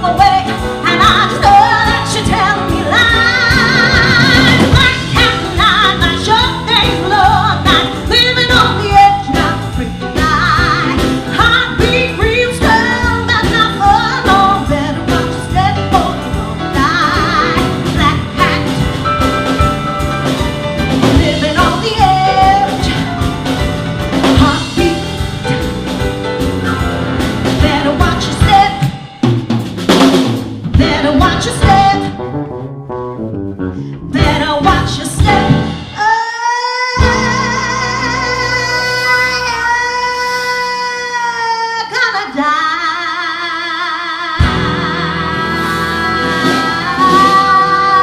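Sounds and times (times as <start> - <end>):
woman singing with vibrato: 0.0 - 19.1, 21.2 - 23.0, 24.4 - 25.2, 27.6 - 29.1, 30.8 - 32.2, 34.1 - 48.0
bass: 0.0 - 43.7, 44.3 - 48.0
drums: 0.0 - 48.0
piano: 0.0 - 48.0.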